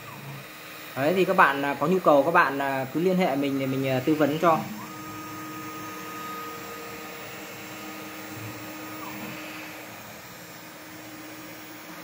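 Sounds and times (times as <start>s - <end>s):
cnc router motors whining: 0.0s - 12.0s.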